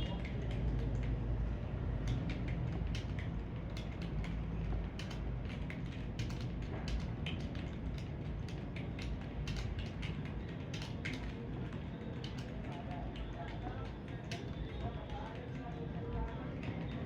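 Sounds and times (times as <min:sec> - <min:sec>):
fast keyboard typing: 0:00.0 - 0:17.0.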